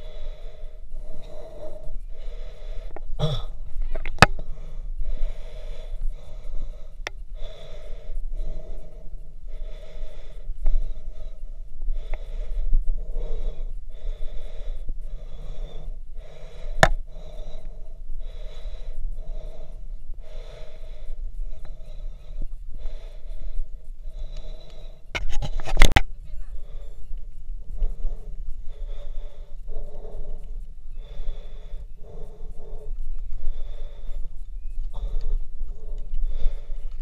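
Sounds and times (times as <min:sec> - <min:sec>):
person breathing hard: 0:00.0 - 0:37.0.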